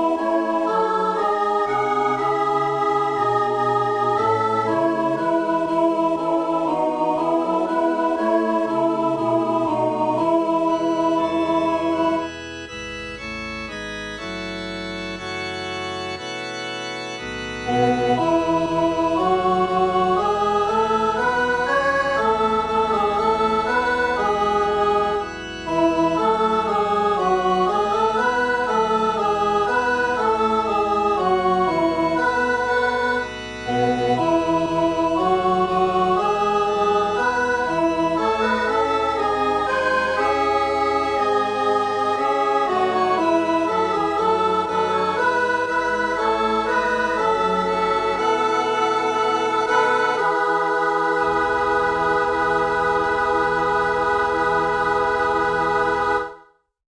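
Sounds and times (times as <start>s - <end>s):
organ-like hymn harmony: 0.0s - 56.6s.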